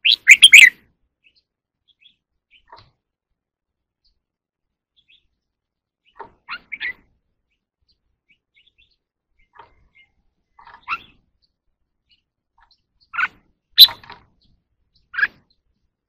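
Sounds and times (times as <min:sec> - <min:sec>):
bird chirping and singing: 0:00.0 - 0:03.0, 0:04.9 - 0:15.8.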